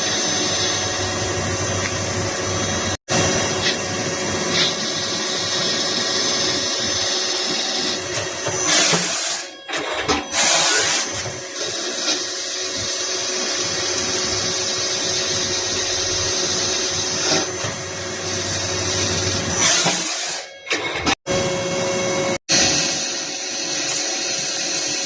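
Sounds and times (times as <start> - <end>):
cnc machine cutting: 0.0 - 25.0.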